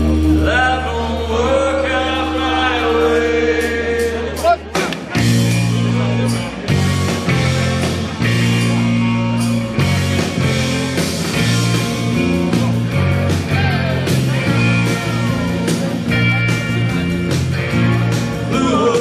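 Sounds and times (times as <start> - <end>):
bass line: 0.0 - 19.0
electric guitar: 2.0 - 19.0.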